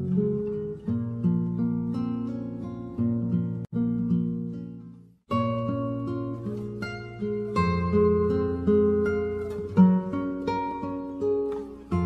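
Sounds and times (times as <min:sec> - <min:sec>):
guitar picking single notes: 0:00.0 - 0:12.0.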